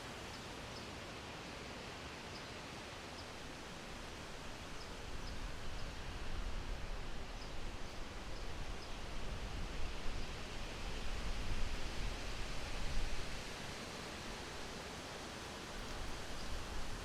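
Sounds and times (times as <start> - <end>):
wind through trees: 0.0 - 17.0.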